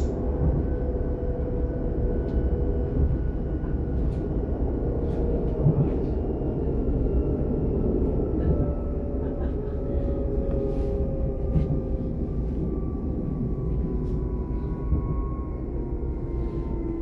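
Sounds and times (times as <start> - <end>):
train deep rumble: 0.0 - 17.0.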